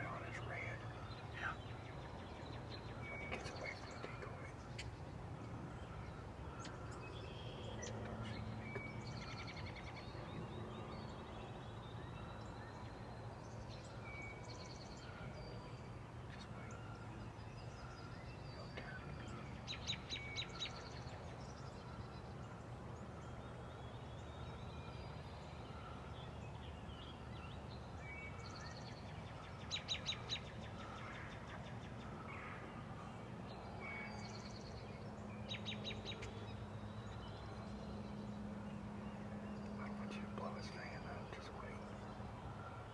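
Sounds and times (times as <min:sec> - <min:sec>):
songbirds chirping: 0:00.0 - 0:42.9
steady low hum: 0:00.0 - 0:42.9.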